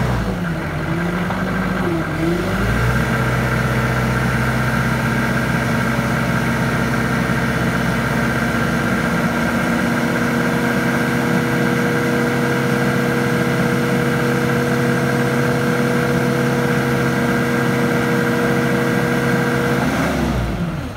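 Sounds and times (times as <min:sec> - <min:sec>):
forklift engine running: 0:00.0 - 0:20.9.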